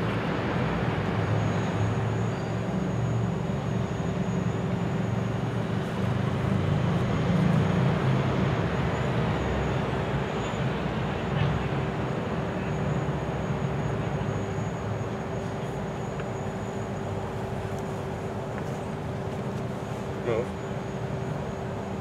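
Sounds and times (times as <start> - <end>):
faint constant hum: 0.0 - 22.0
urban background rumble: 0.0 - 22.0.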